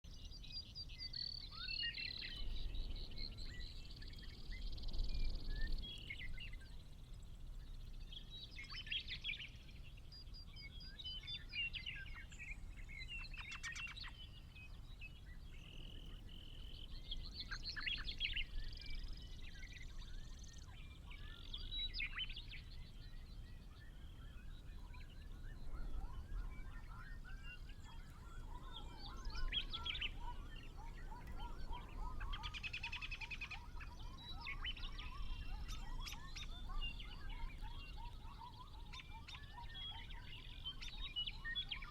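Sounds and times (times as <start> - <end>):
songbirds singing and chirping: 0.0 - 41.9.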